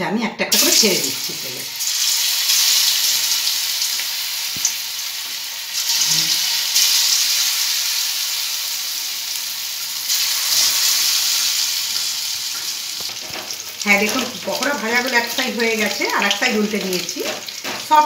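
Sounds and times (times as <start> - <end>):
food sizzling in deep-fry oil: 0.5 - 18.0.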